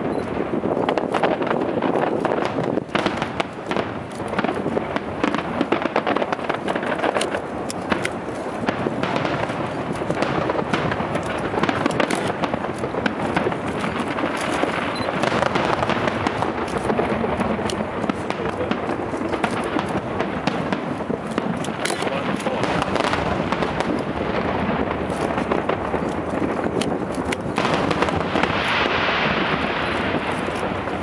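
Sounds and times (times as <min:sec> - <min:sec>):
fireworks bursts and crackling: 0:00.0 - 0:31.0.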